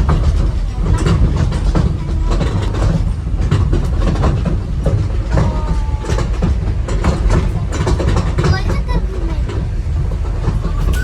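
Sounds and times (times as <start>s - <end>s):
toy train rumbling on track: 0.0s - 11.0s
train wheels clicking and clacking: 0.0s - 11.0s.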